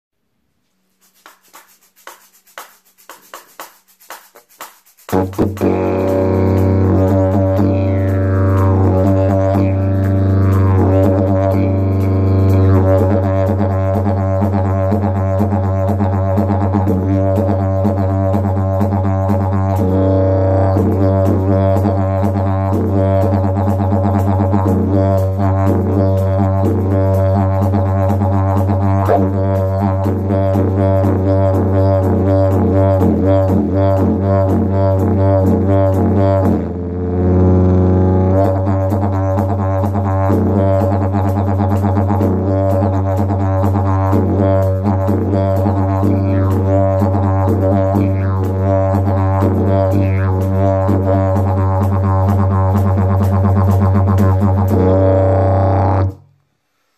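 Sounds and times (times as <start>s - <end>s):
didgeridoo drone: 5.1s - 56.2s.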